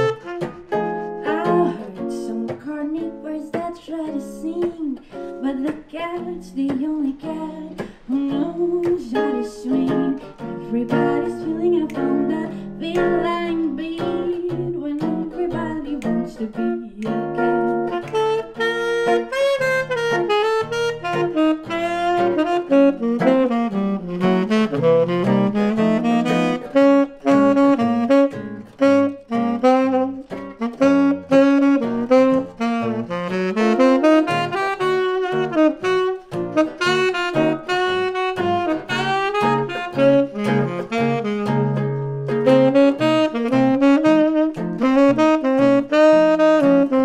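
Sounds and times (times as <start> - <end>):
tenor saxophone jazz solo: 0.0 - 3.2, 7.2 - 47.0
acoustic guitar chords: 0.0 - 47.0.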